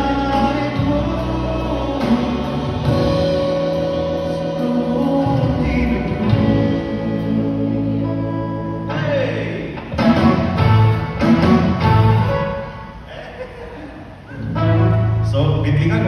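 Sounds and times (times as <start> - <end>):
worship band and singers: 0.0 - 16.0.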